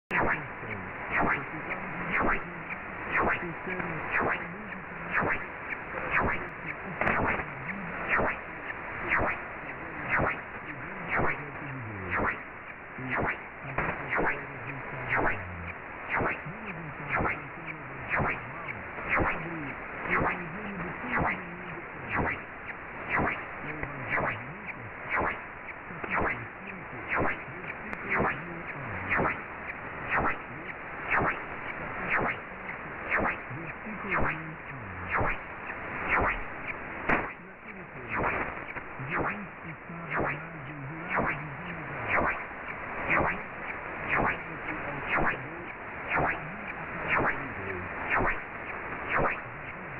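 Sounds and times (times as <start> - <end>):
faint radio broadcast audio: 0.1 - 49.9
sharp static clicks: 0.1 - 49.9
static hiss: 0.1 - 49.9.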